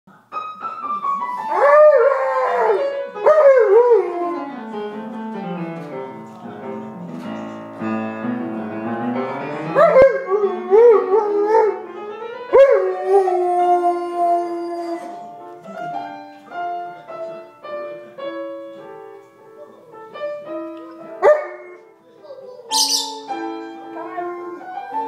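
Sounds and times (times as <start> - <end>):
piano music: 0.1 - 25.0.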